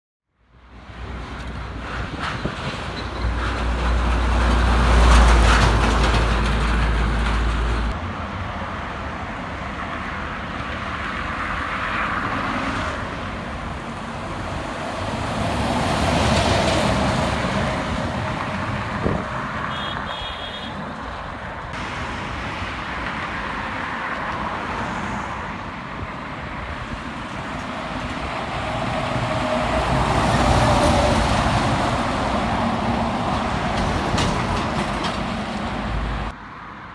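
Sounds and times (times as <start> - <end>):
vehicles passing on highway: 0.4 - 36.9.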